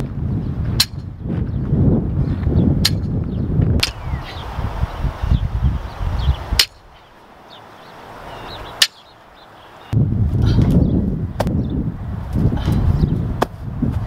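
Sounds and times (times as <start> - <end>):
wind rumbling on microphone: 0.0 - 8.8, 9.8 - 14.0
birds chirping: 0.3 - 13.4.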